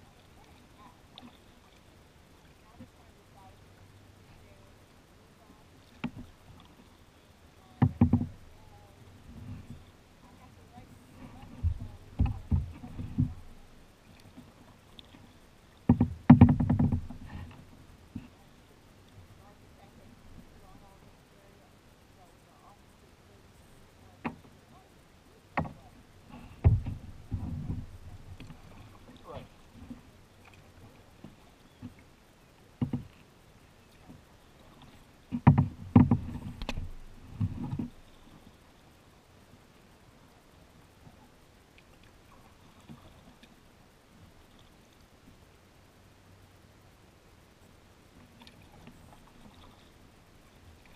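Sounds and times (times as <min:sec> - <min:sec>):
paddle strokes splashing: 0:00.0 - 0:21.6, 0:24.0 - 0:45.5, 0:48.0 - 0:50.9.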